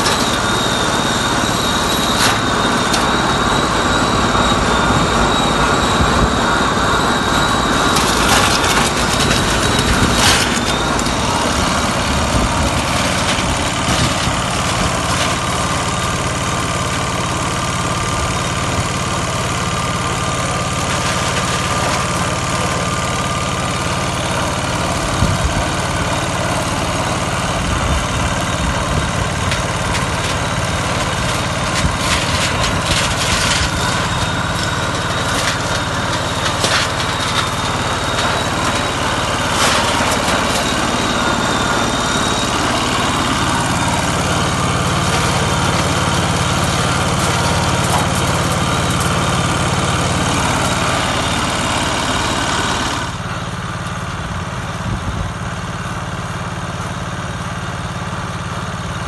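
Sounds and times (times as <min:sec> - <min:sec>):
thin high whine: 0:00.0 - 0:53.6
threshing machine running: 0:00.0 - 0:59.0.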